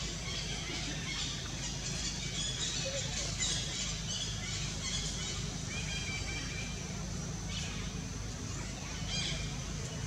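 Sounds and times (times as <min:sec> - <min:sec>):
constant low hum: 0:00.0 - 0:10.0.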